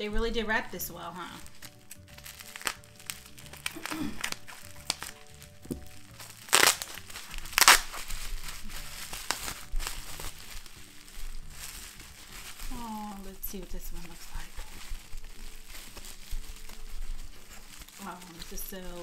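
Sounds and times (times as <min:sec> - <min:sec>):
bubble wrap crinkling: 0:00.0 - 0:19.0
soft background music: 0:00.0 - 0:19.0.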